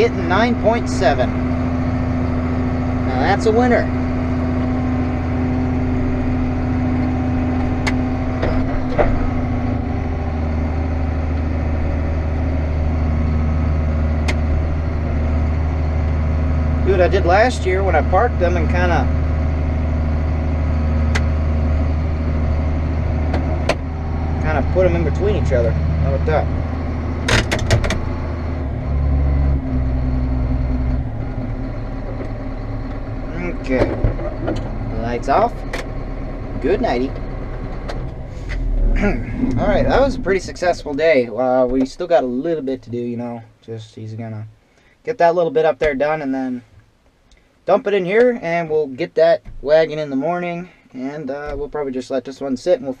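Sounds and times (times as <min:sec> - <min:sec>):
diesel engine running: 0:00.0 - 0:43.1.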